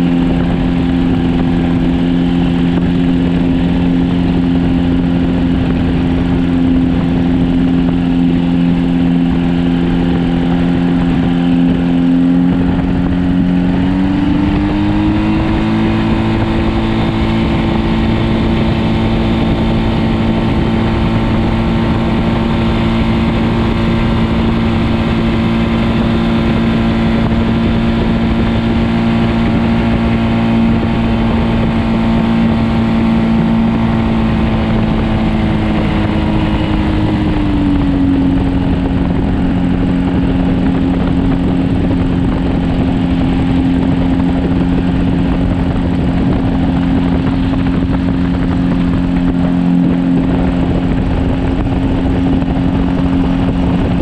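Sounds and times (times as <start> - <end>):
paramotor engine droning: 0.0 - 54.0
wind noise on microphone: 0.0 - 54.0.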